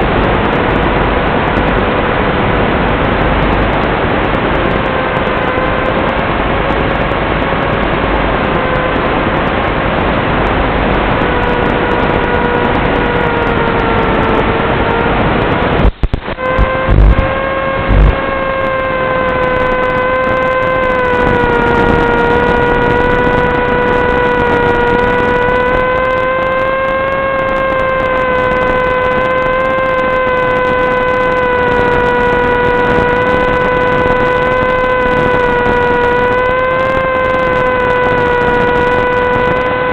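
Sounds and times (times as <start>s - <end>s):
electric motor whine: 0.0s - 39.9s
wind rush: 0.0s - 39.9s.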